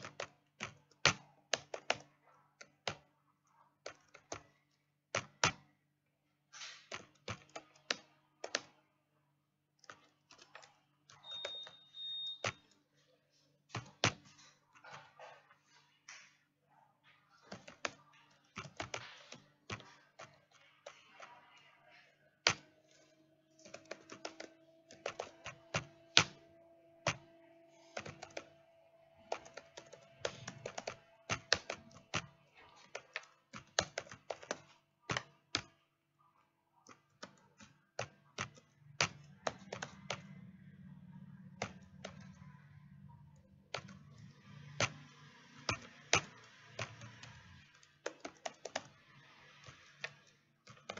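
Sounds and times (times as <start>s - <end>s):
keyboard typing: 0.0s - 50.9s.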